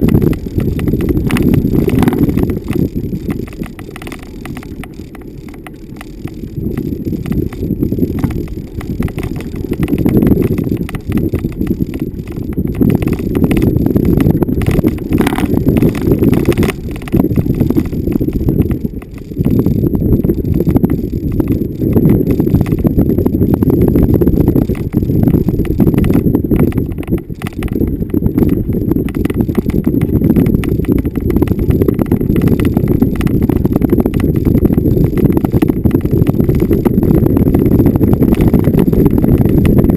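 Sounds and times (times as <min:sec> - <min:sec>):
knocks and rattles: 0:00.0 - 0:39.9
vehicle rumbling off-road: 0:00.0 - 0:39.9.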